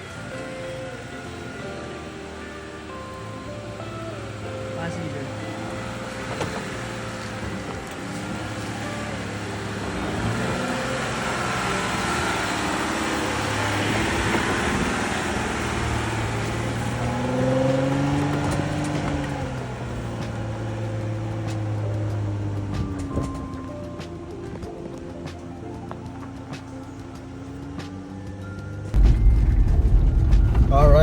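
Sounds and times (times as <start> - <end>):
off-road vehicle engine running: 0.0 - 31.0
road and tyre noise: 0.0 - 31.0.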